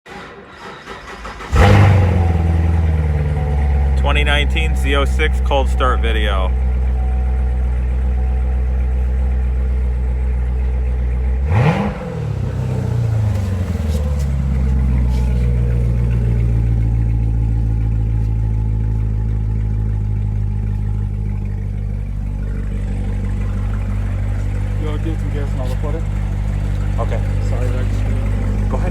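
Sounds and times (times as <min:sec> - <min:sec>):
car engine cold start: 0:00.0 - 0:28.9
low engine drone: 0:01.5 - 0:28.9.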